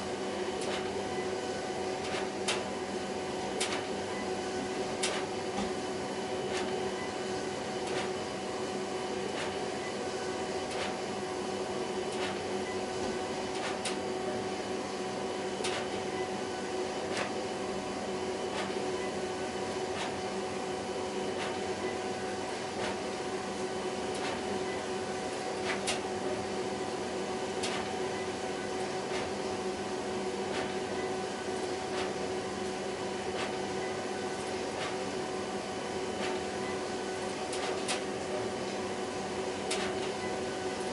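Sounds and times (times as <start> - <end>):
printer whirring and humming: 0.0 - 40.9.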